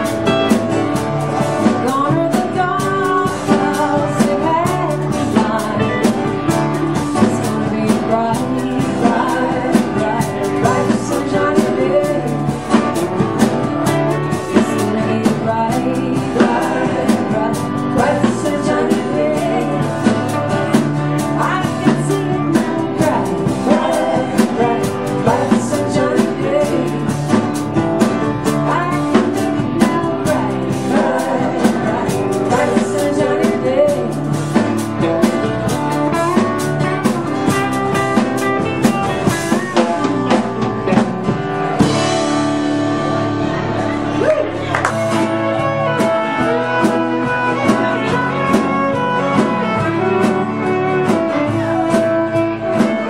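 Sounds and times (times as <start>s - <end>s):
second guitar: 0.0s - 53.0s
woman singing: 1.4s - 40.7s, 45.0s - 53.0s
low bass line: 2.8s - 52.8s.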